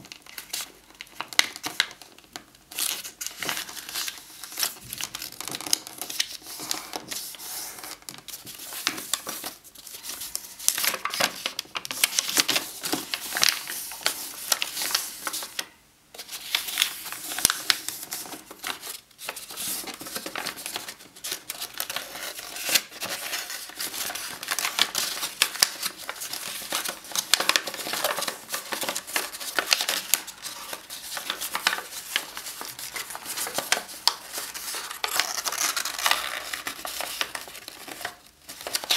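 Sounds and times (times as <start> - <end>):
paper rustling and crinkling: 0.0 - 38.9.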